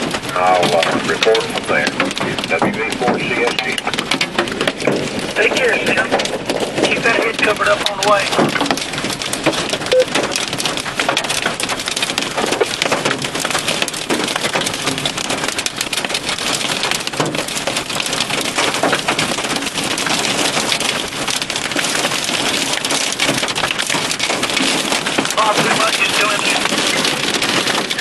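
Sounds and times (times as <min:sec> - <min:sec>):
heavy rain pelting: 0:00.0 - 0:28.0.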